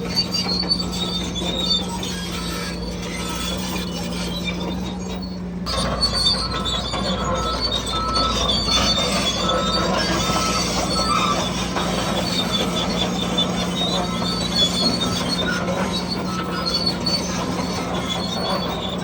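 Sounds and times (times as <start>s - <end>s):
electric motor and gearbox whine: 0.0s - 19.0s
metal tracks squealing and grinding: 0.0s - 19.0s.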